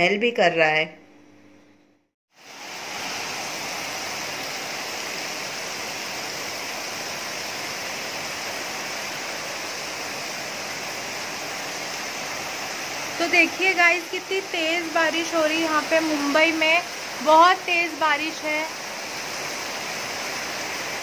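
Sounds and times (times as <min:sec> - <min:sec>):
heavy rain pouring: 0:02.3 - 0:21.0.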